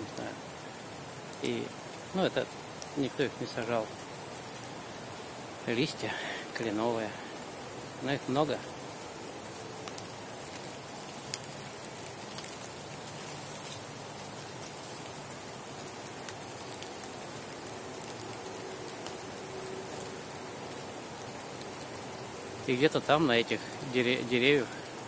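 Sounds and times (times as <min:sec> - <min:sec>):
distant city noise: 0:00.0 - 0:25.0
drizzle falling on leaves: 0:00.0 - 0:25.0.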